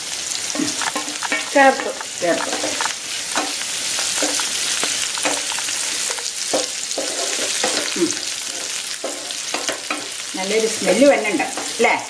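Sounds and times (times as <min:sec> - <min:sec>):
vegetables sizzling in oil: 0:00.0 - 0:12.0
wooden spatula scraping pan: 0:00.5 - 0:10.2.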